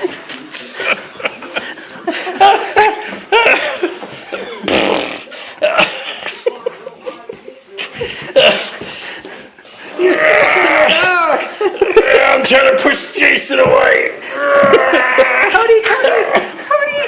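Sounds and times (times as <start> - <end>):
people laughing: 0.0 - 17.0.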